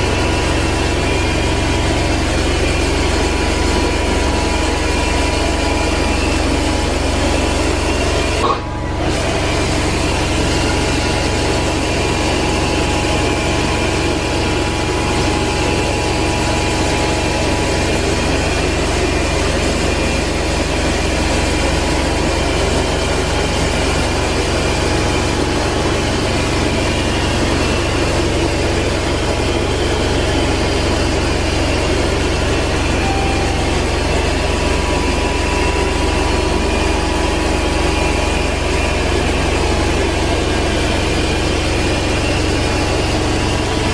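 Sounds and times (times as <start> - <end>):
carpet extractor whir and suction hiss: 0.0 - 43.9.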